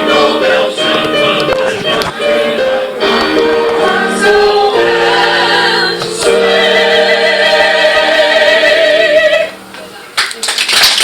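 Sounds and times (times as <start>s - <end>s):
choir singing held chords: 0.0s - 9.7s.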